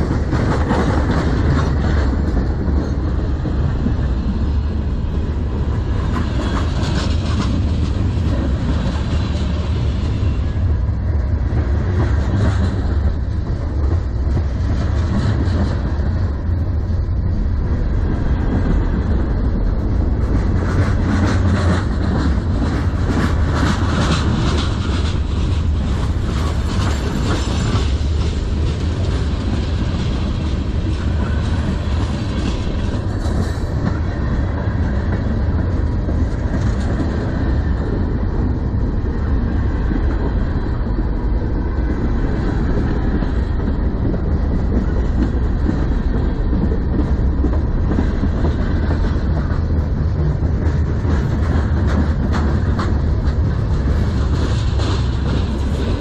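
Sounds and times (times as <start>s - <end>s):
clickety-clack over rail joints: 0.0s - 56.0s
freight train wheels rumbling: 0.0s - 56.0s.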